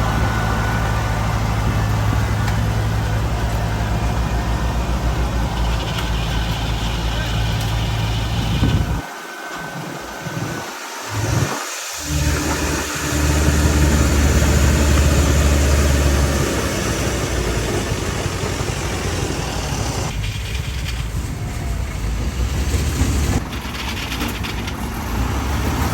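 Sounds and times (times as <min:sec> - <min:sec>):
harvester diesel engine running: 0:00.0 - 0:25.9.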